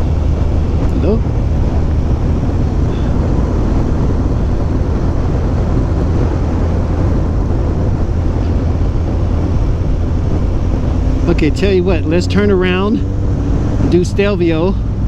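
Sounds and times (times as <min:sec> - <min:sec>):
even rushing noise: 0:00.0 - 0:15.0
low rumble: 0:00.0 - 0:15.0
motorcycle engine running: 0:00.0 - 0:15.0.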